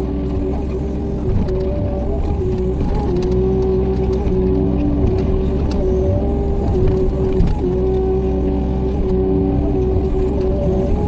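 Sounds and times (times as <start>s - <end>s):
excavator diesel engine rumble: 0.0s - 11.0s.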